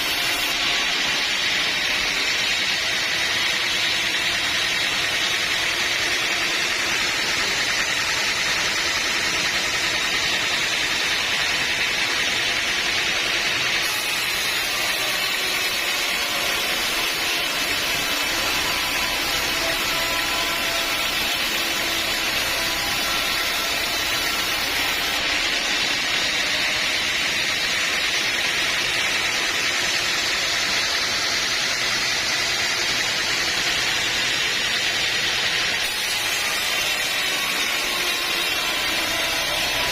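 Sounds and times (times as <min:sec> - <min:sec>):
sawmill saw and machinery running: 0:00.0 - 0:39.9.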